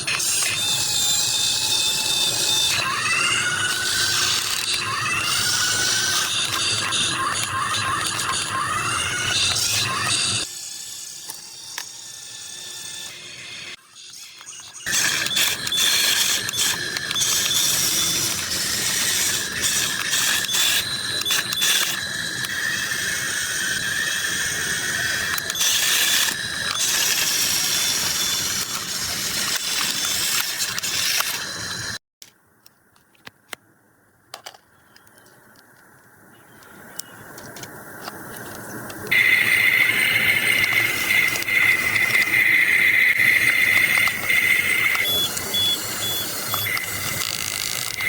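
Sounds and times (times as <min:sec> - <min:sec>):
toy excavator motors whining: 0:00.0 - 0:32.0, 0:36.6 - 0:48.0.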